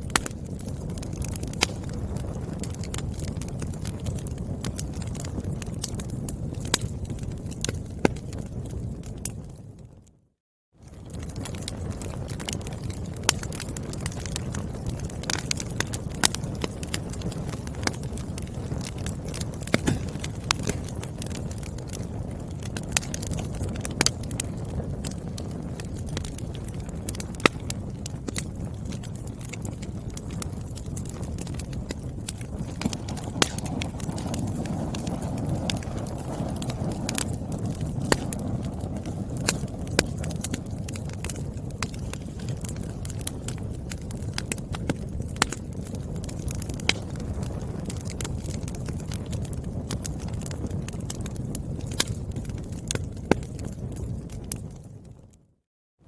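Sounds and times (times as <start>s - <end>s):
firewood crackling: 0.0s - 10.2s, 10.8s - 55.3s
low rumble of flames: 0.0s - 55.6s.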